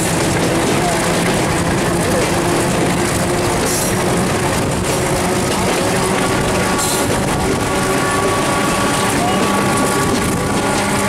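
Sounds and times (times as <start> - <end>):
diesel locomotive rumbling: 0.0 - 11.0.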